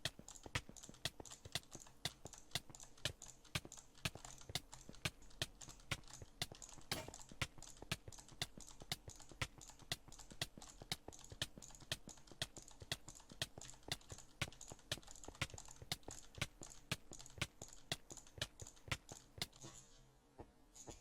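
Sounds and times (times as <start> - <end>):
sharp dry clicks: 0.0 - 19.7.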